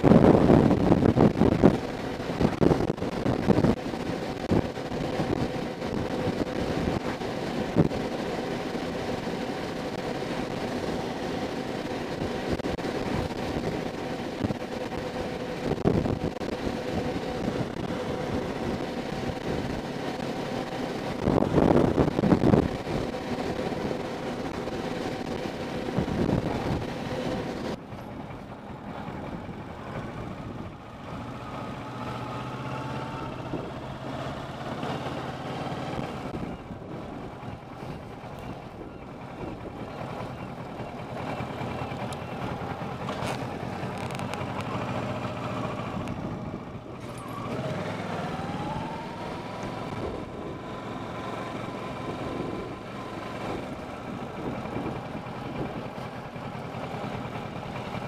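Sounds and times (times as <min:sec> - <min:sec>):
wind rush: 0:00.0 - 0:40.4, 0:44.9 - 0:56.0
motorcycle engine: 0:00.0 - 0:58.0.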